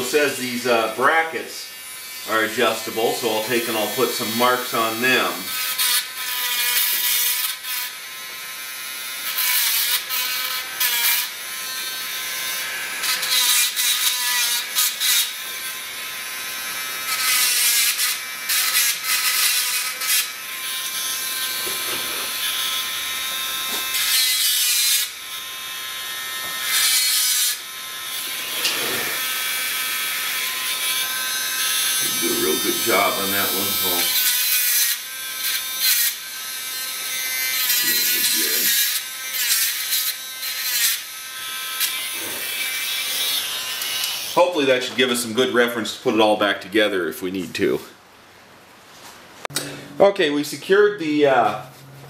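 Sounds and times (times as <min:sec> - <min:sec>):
electric engraving tool buzzing on metal: 0:00.0 - 0:44.4.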